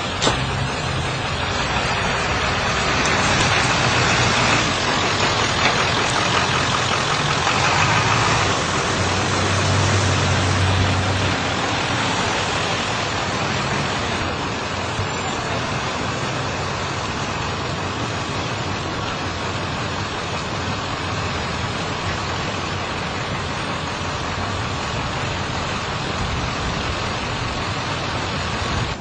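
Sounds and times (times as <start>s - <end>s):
loud rushing hiss: 0.0s - 29.0s
vehicle engine running: 0.0s - 29.0s.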